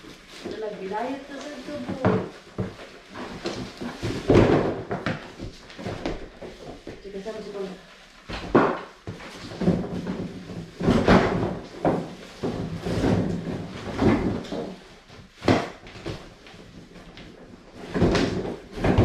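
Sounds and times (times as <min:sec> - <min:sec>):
plastic wrap crinkling: 0:00.0 - 0:19.0.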